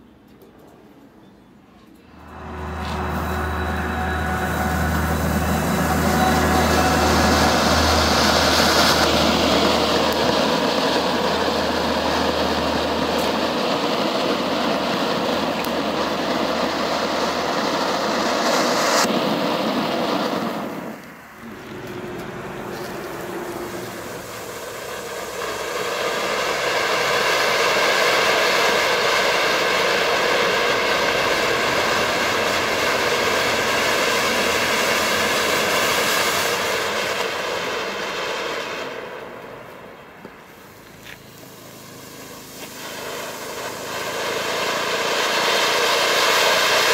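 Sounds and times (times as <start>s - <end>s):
sparkler fountains hissing: 2.1s - 46.9s.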